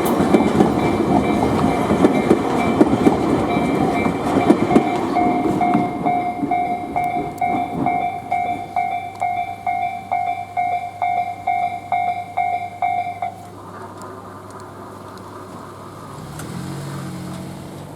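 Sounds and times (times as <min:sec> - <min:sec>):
level-crossing warning bell: 0:00.0 - 0:15.9
passing train rumble: 0:00.0 - 0:17.9.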